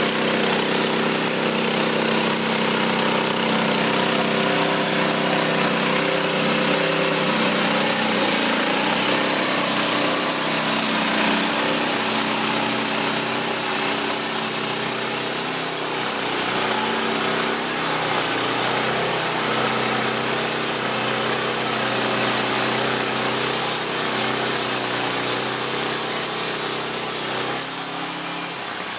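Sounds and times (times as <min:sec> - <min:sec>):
saw blade cutting log: 0:00.0 - 0:28.9.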